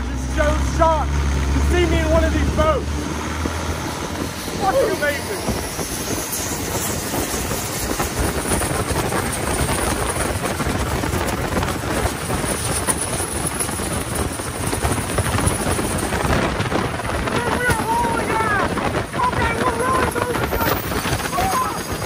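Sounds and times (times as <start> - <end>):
boat engine running hard: 0.0 - 22.0
water rushing: 0.0 - 22.0
wind on microphone: 0.0 - 22.0.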